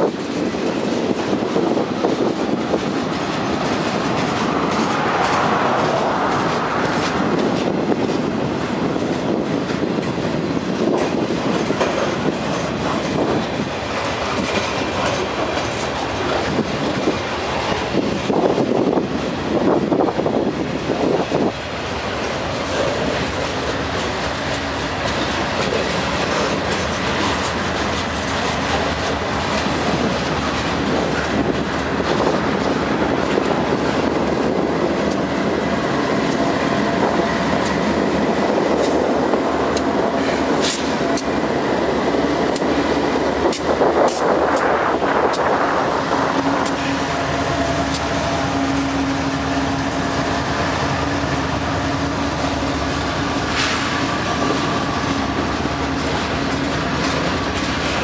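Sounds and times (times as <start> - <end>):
diesel locomotive engine hum: 0.0 - 58.0
freight train rumbling: 0.0 - 58.0.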